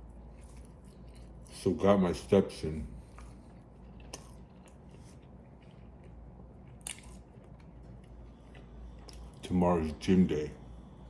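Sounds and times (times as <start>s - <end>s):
chewing food quietly: 0.0s - 9.5s.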